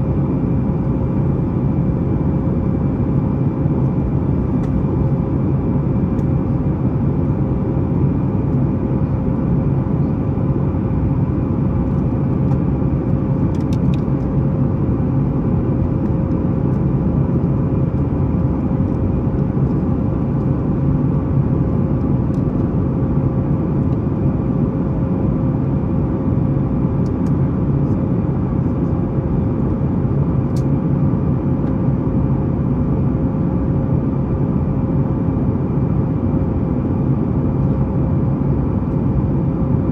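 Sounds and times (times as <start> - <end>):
aircraft engines droning: 0.0 - 39.9
cabin airflow: 0.0 - 39.9
steady hum: 0.0 - 39.9.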